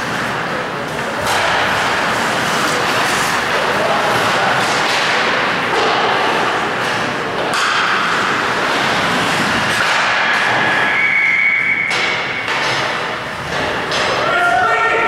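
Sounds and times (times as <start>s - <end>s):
puck and sticks knocking boards: 0.0s - 14.7s
skates scraping ice: 0.0s - 15.0s.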